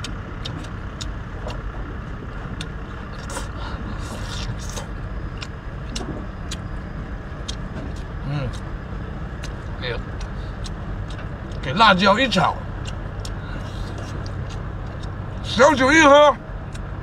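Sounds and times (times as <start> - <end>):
man chewing and eating: 0.0 - 11.7, 12.6 - 15.5, 16.4 - 17.0
low rumble: 0.0 - 17.0.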